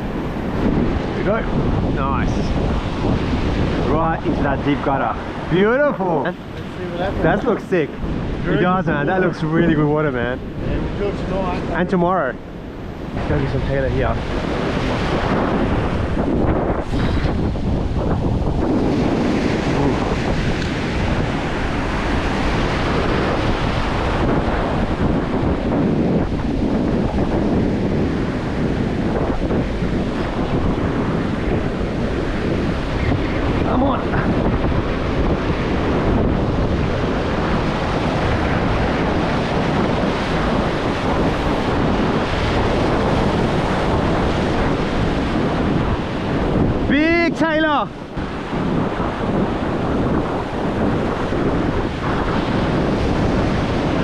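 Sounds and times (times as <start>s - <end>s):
ocean surf washing on beach: 0.0s - 54.0s
wind buffeting microphone: 0.0s - 54.0s.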